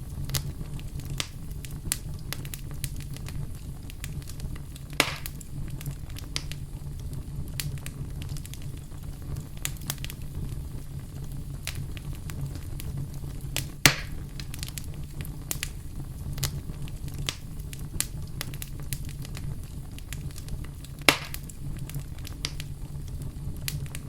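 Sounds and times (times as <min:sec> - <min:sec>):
campfire rumble: 0:00.0 - 0:24.0
fire crackling and popping: 0:00.0 - 0:24.0.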